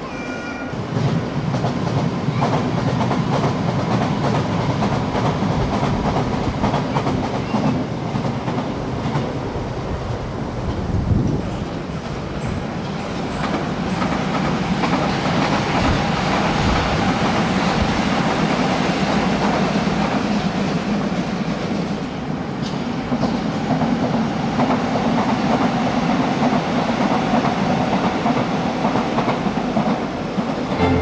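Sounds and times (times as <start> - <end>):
electric train rumble: 0.7 - 31.0.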